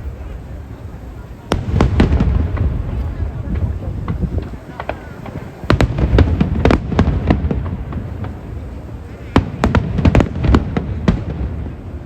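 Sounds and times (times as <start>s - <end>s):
fireworks bangs: 1.3s - 12.0s.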